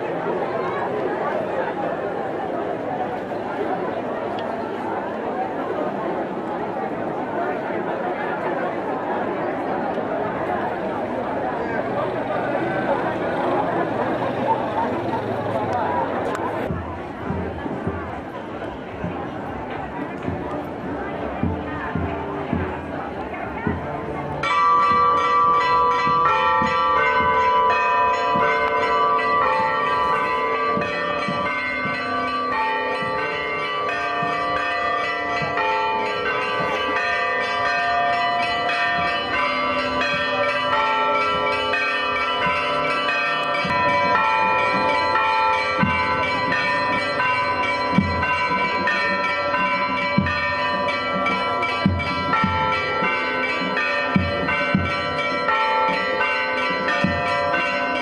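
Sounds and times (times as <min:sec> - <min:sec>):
church bells pealing: 0:00.0 - 0:58.0.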